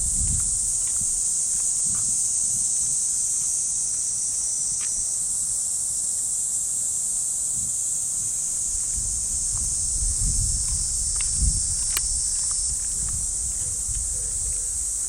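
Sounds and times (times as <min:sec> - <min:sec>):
soft footsteps on a path: 0:00.0 - 0:05.2, 0:07.6 - 0:15.0
cicadas singing: 0:00.0 - 0:15.0.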